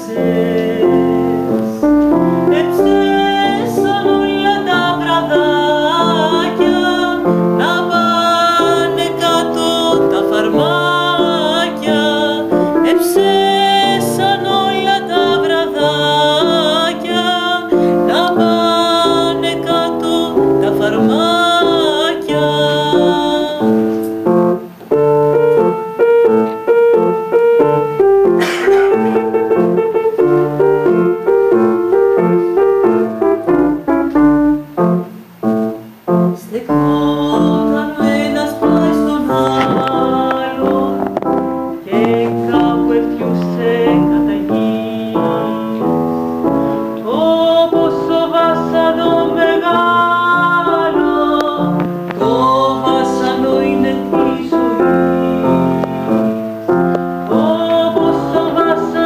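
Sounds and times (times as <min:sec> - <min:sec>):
piano playing: 0:00.0 - 0:59.0.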